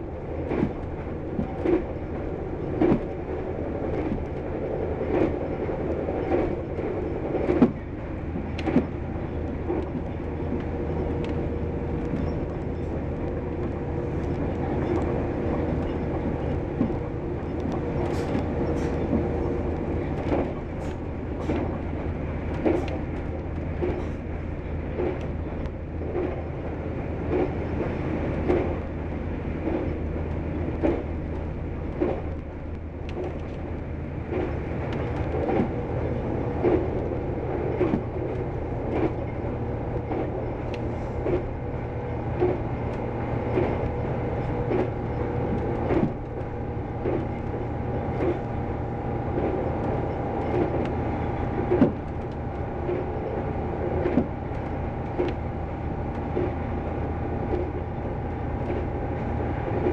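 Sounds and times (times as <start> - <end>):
train engine drone: 0.0 - 59.9
wheels clacking on track: 0.0 - 59.9.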